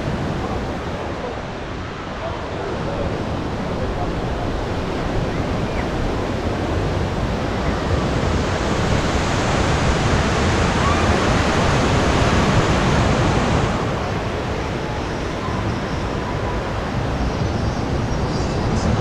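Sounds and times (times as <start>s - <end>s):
surf rushing: 0.0s - 19.0s.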